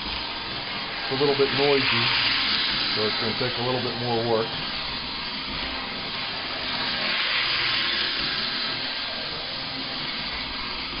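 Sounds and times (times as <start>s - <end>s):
model train motor whirring: 0.0s - 11.0s.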